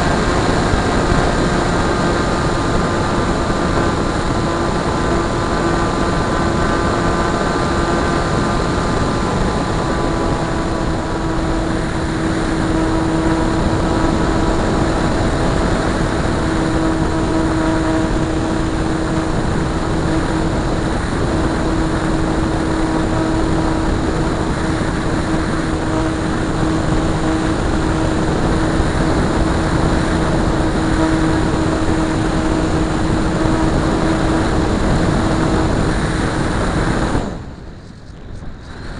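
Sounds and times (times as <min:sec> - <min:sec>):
model airplane motor whine: 0:00.0 - 0:38.9
rushing air noise: 0:00.0 - 0:38.9.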